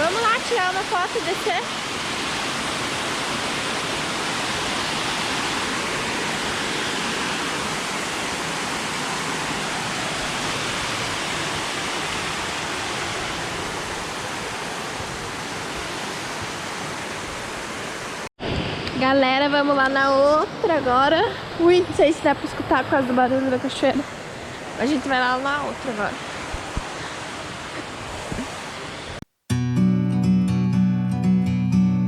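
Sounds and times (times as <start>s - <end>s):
waterfall rushing: 0.0s - 29.2s.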